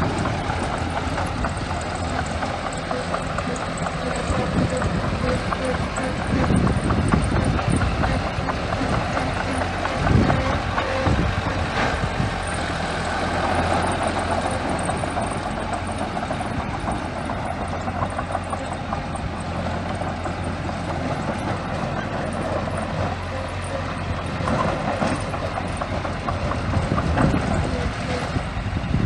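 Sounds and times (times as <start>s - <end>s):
diesel engine under load: 0.0s - 29.0s
steel tracks clanking and rattling: 0.0s - 29.0s.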